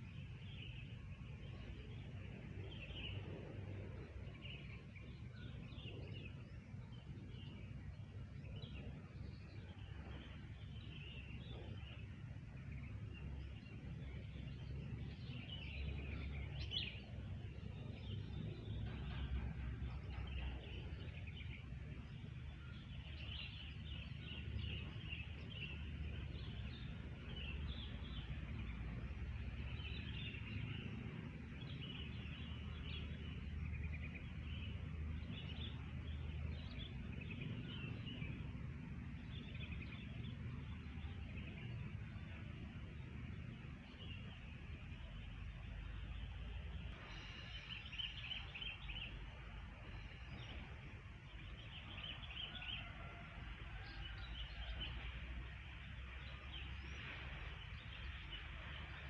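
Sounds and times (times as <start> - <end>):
steady low rumble: 0.0 - 59.0
birds chirping: 0.2 - 55.1.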